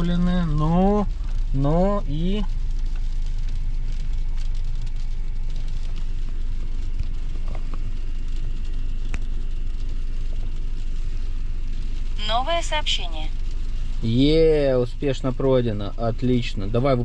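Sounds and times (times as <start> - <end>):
car cabin engine rumble: 0.0 - 17.0.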